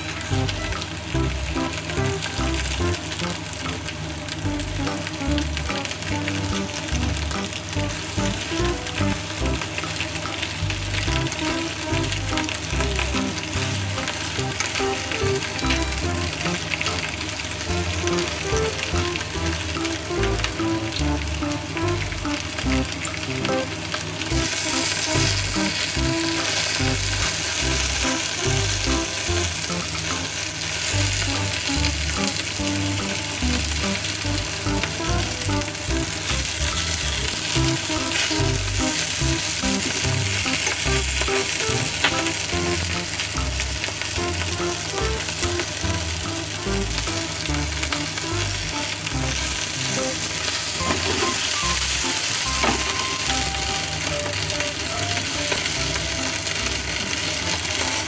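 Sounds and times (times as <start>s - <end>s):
vegetables sizzling in a frying pan: 0.0s - 58.0s.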